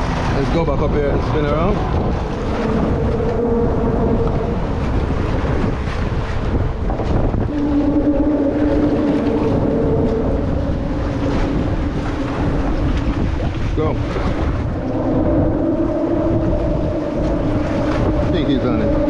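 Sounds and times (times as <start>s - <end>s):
water lapping at kayak: 0.0s - 19.0s
wind buffeting microphone: 0.0s - 19.0s
steady hum: 1.6s - 19.0s.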